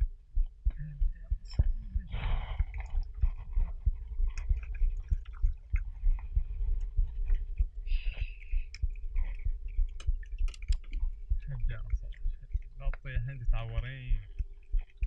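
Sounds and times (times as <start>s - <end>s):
low muffled thumps: 0.0s - 7.9s, 8.6s - 14.9s.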